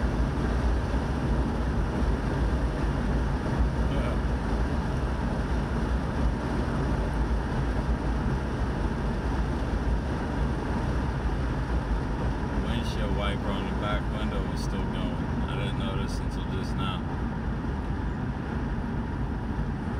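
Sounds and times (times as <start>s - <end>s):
vehicle road noise from cabin: 0.0s - 19.9s.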